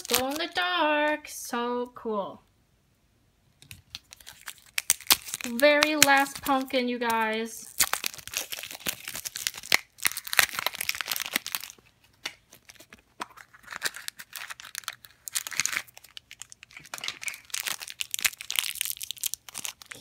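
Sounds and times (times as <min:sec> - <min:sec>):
foil bag crinkling: 0:00.0 - 0:00.6, 0:03.7 - 0:20.0
plastic packaging crinkling and tearing: 0:00.0 - 0:00.7, 0:03.6 - 0:20.0.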